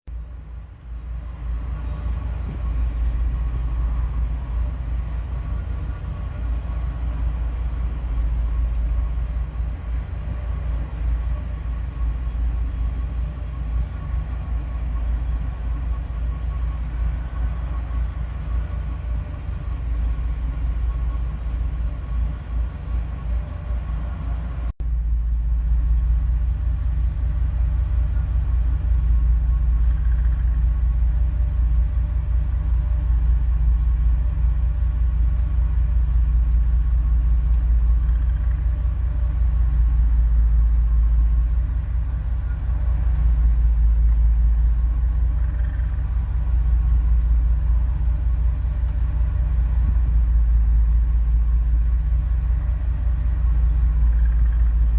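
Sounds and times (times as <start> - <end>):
low engine rumble: 0.0 - 54.9.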